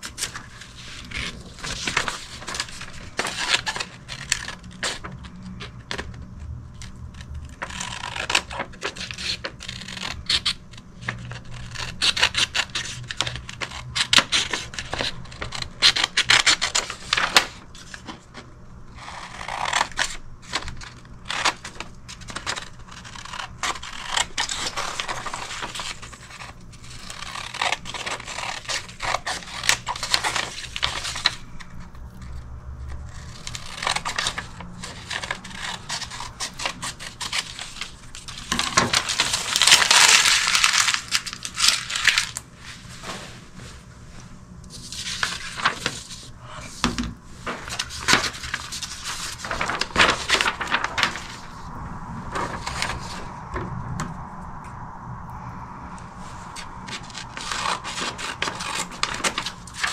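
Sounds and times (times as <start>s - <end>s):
scratching and scraping: 0.0s - 54.9s, 55.5s - 59.9s
faint steady hum: 0.0s - 59.9s.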